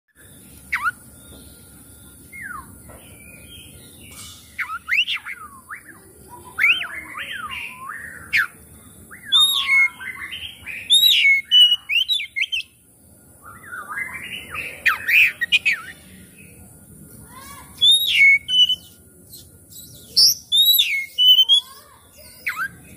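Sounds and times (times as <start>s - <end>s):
bird singing whistled notes: 0.2s - 12.8s, 13.4s - 16.5s, 17.8s - 22.9s.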